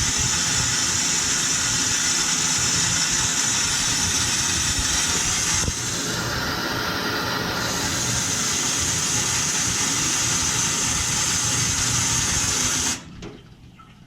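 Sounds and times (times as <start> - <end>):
gas torch flame burning: 0.0 - 13.1.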